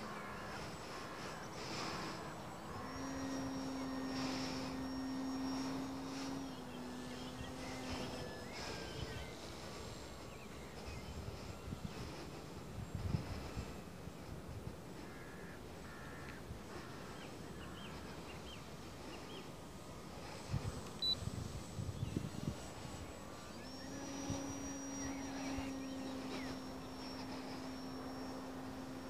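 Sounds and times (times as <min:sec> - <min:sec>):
model plane propeller drone: 0:00.0 - 0:29.0.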